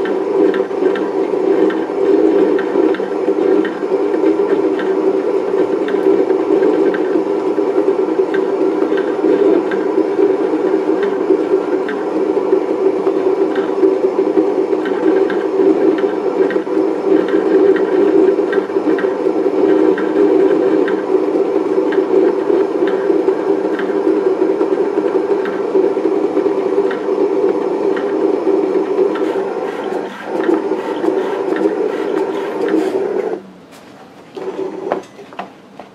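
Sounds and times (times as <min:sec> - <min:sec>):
cutting plotter mechanical drone: 0:00.0 - 0:33.7, 0:34.4 - 0:35.5.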